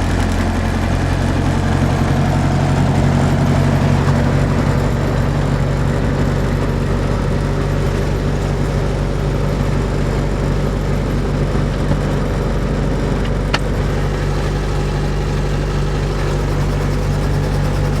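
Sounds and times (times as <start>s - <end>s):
helicopter engine and rotors: 0.0s - 18.0s.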